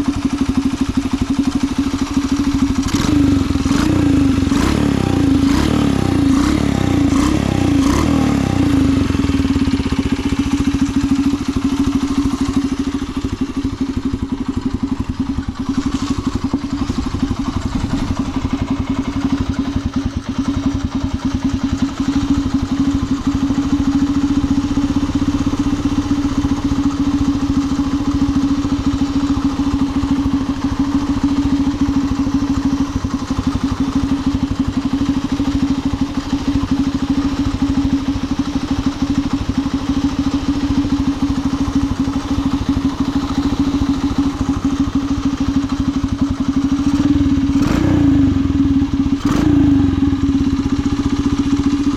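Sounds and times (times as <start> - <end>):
small motorcycle engine idling: 0.0 - 51.9.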